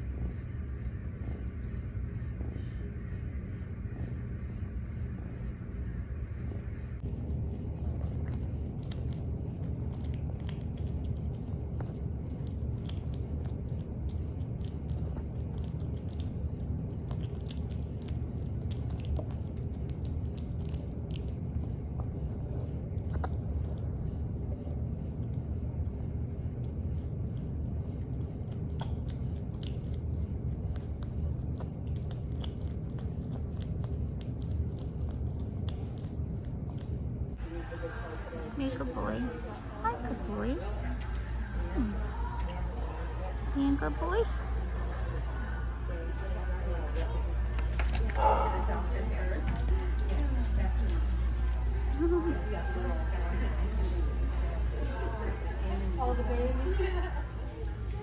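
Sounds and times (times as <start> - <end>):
steady low hum: 0.0 - 58.0
kitten chewing and licking food: 7.0 - 58.0.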